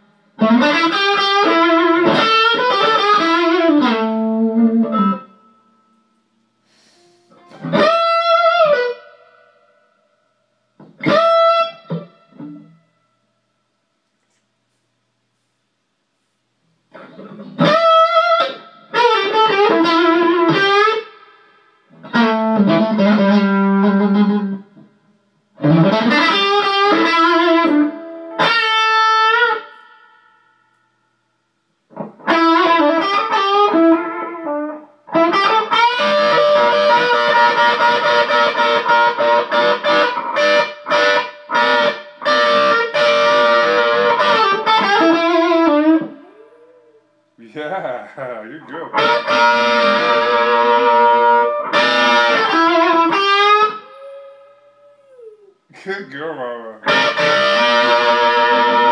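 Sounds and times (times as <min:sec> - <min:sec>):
blues guitar playing: 0:00.0 - 0:05.6, 0:06.8 - 0:09.5, 0:10.8 - 0:12.8, 0:16.9 - 0:21.2, 0:21.9 - 0:24.9, 0:25.6 - 0:30.1, 0:31.9 - 0:58.9.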